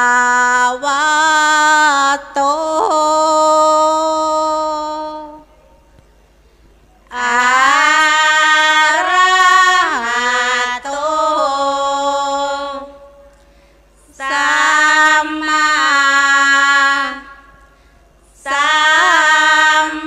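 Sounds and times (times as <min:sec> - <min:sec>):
woman chanting: 0:00.0 - 0:05.6, 0:07.0 - 0:13.3, 0:14.0 - 0:17.5, 0:18.2 - 0:20.0.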